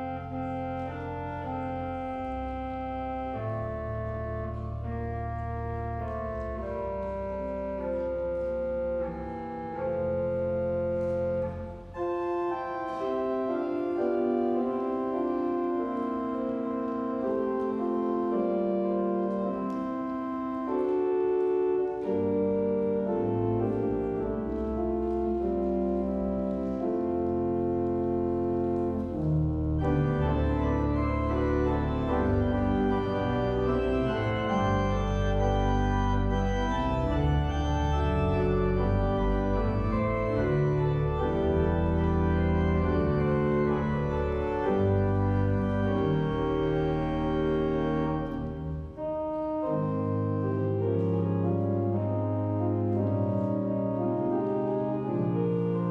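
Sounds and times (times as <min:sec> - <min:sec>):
pipe organ chords: 0:00.0 - 0:55.9.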